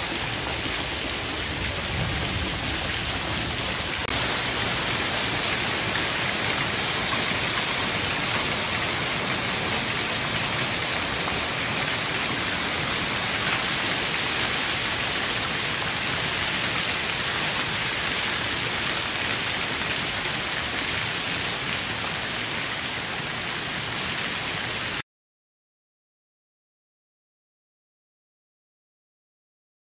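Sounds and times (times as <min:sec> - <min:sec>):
hail and heavy rain on paving: 0:00.0 - 0:25.0.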